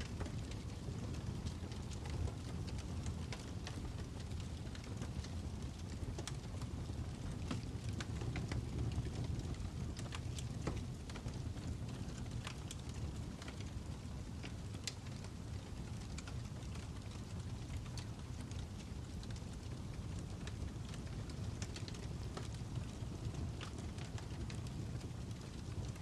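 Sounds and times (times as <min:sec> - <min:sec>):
fire crackling and popping: 0:00.0 - 0:26.0
low rumble of burning: 0:00.0 - 0:26.0.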